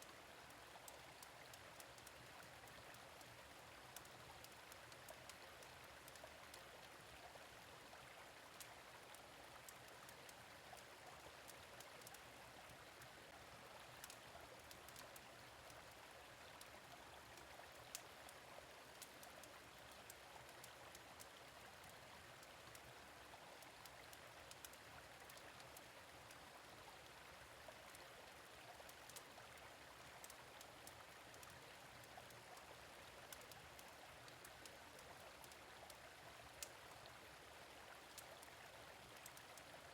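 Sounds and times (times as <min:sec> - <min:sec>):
gentle stream flowing: 0:00.0 - 0:39.9.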